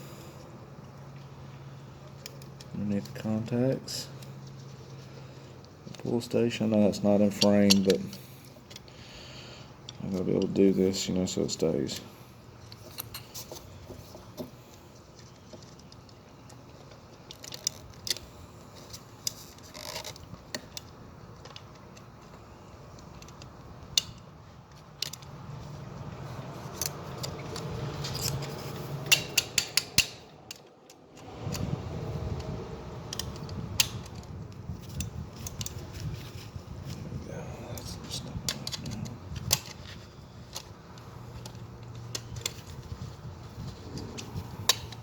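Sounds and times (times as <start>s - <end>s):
small metallic clicks and rattles: 2.0s - 3.4s, 4.1s - 9.0s, 11.3s - 37.1s, 37.7s - 45.0s.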